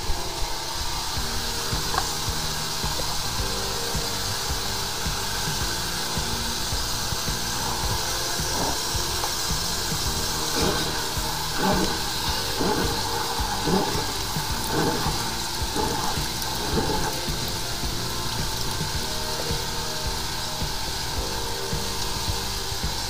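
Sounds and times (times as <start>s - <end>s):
sewer jetter hissing: 0.0s - 23.0s
water jet surges: 0.0s - 23.0s.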